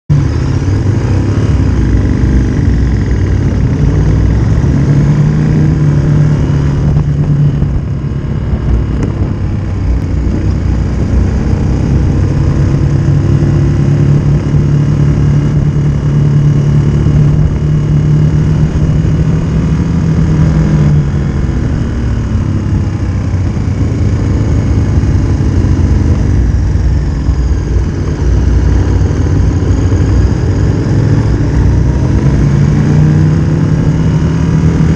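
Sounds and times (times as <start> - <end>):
motorcycle engine running: 0.1 - 34.9
wind noise on microphone: 0.1 - 34.9.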